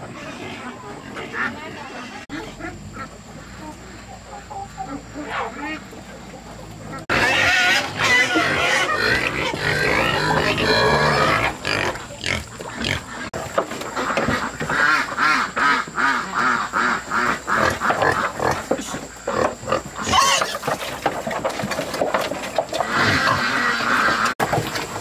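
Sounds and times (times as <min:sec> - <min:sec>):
pigs grunting and squealing: 0:00.0 - 0:06.0, 0:06.7 - 0:13.4, 0:14.1 - 0:24.4.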